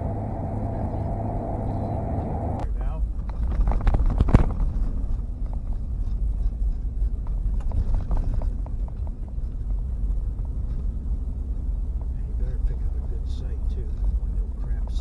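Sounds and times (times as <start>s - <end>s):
vehicle road rumble: 0.0s - 15.0s
light rattles and clicks: 2.6s - 15.0s.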